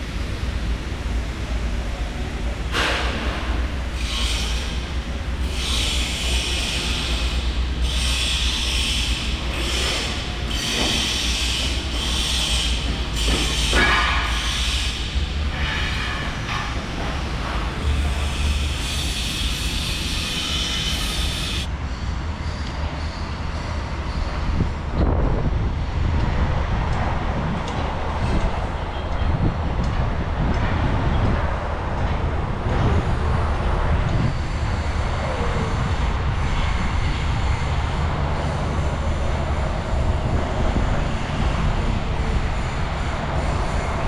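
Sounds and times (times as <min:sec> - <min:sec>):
clattering train wheels: 0:00.0 - 0:44.0
train rumbling on rails: 0:00.0 - 0:44.0.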